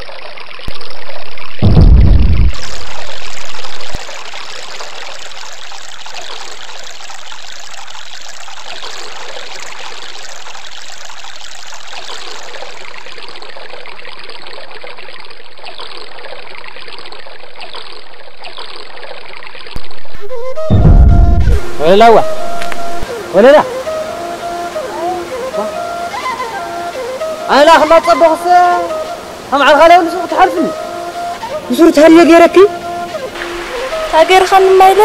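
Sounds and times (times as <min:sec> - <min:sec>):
stream water rushing and trickling: 0:00.0 - 0:35.0.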